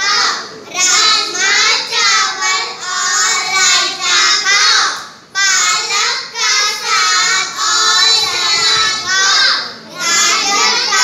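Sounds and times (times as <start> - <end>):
children singing in unison: 0.0 - 11.0.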